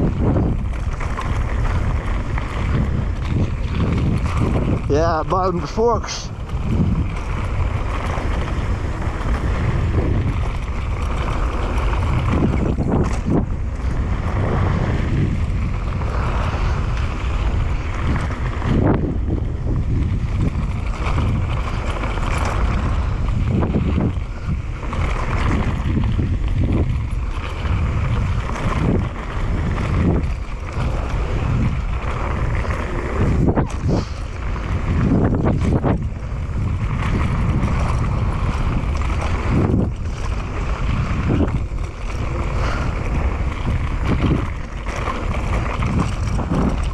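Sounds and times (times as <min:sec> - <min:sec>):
bike knocks and rattles: 0:00.0 - 0:46.9
bike tyre noise: 0:00.0 - 0:46.9
wind buffeting microphone: 0:00.0 - 0:46.9.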